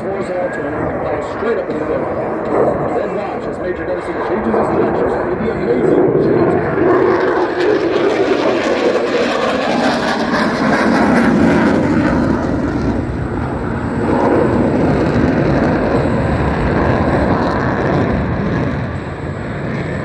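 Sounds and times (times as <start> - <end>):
fighter jet roaring overhead: 0.0 - 20.0.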